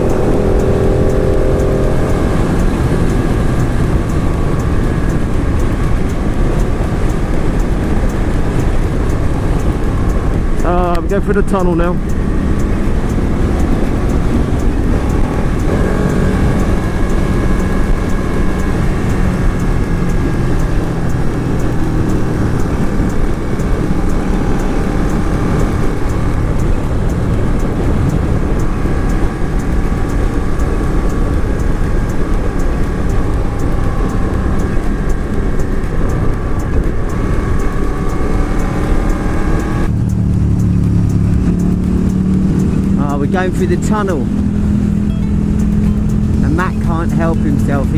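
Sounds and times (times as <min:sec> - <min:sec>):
motorcycle engine: 0:00.0 - 0:47.9
wind rush on microphone: 0:00.0 - 0:47.9.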